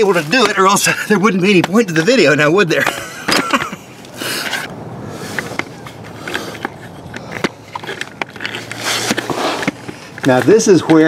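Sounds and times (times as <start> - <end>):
jack wheels rolling over concrete: 0.0 - 11.0.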